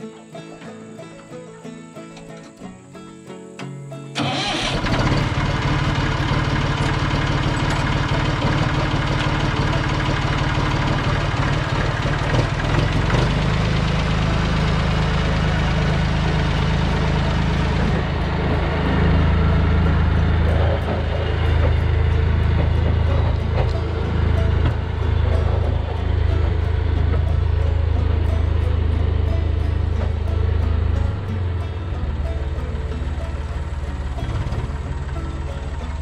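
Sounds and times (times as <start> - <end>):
tractor engine starting and idling: 3.6 - 36.0.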